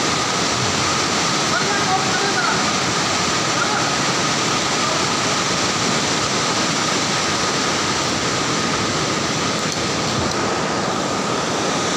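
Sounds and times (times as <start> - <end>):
floodwater rushing loudly: 0.0 - 11.9.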